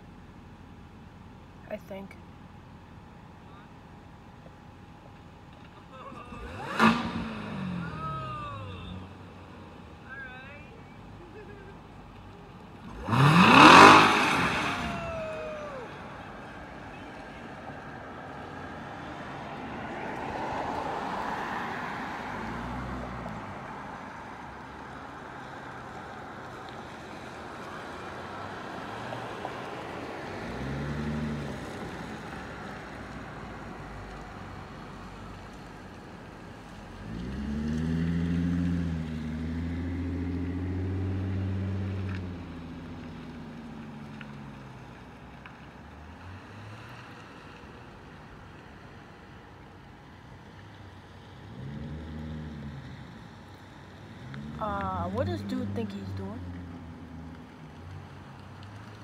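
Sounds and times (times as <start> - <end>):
car engine revving: 5.6 - 47.9, 50.4 - 59.0.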